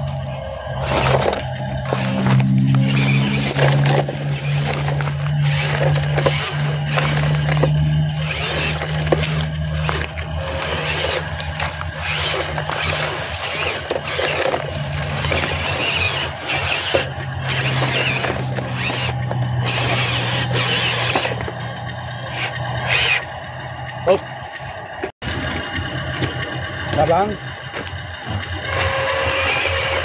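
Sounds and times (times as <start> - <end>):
electric motor humming: 0.0 - 30.0
tyres grinding over gravel: 0.0 - 30.0.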